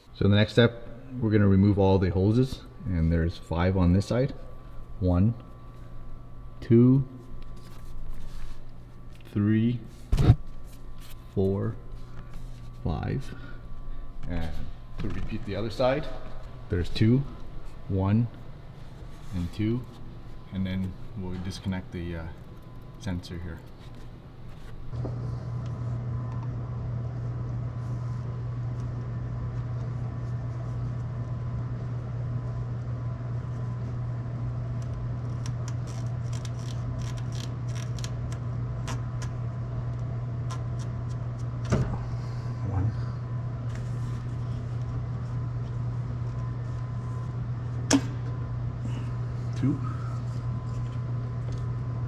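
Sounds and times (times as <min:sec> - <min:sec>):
low machine hum: 0:00.0 - 0:52.0.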